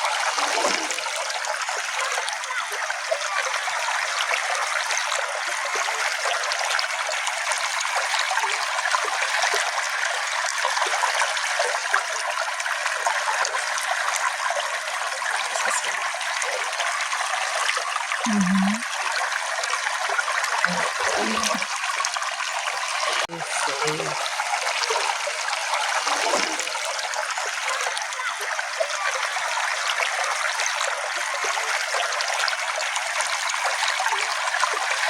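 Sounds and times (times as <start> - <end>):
stream flowing over stones: 0.0 - 35.0.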